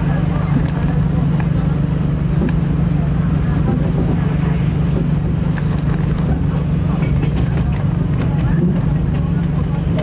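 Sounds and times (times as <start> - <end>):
constant rushing noise: 0.0 - 10.0
train running low hum: 0.0 - 10.0.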